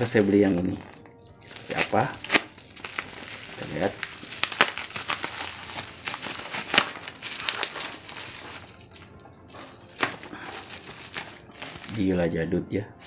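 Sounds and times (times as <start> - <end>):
plastic mailer crinkling: 0.0 - 13.0
knife slitting plastic: 1.4 - 12.0.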